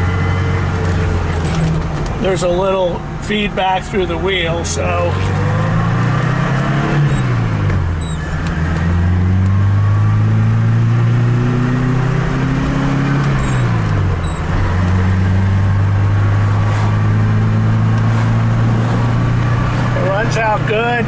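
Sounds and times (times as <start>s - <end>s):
car engine accelerating: 4.0s - 21.0s.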